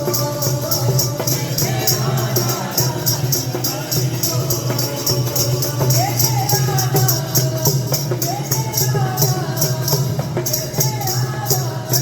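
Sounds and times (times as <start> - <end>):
jingling hand percussion: 0.0 - 12.0.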